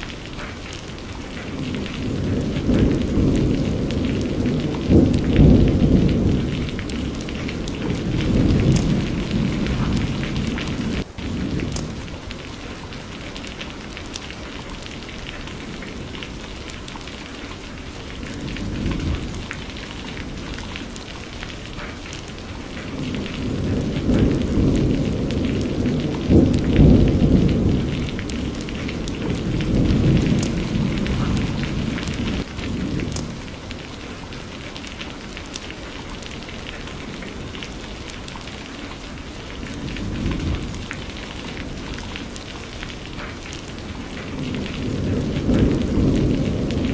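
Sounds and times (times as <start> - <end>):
rolling thunder: 0.0 - 34.3, 39.1 - 46.9
steady rain: 0.0 - 46.9.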